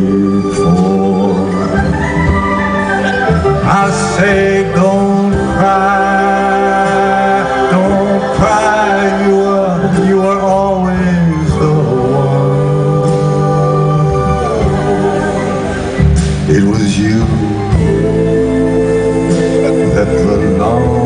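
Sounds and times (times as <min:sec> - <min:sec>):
bass: 0:00.0 - 0:21.0
organ: 0:00.0 - 0:21.0
person singing long notes: 0:00.0 - 0:21.0.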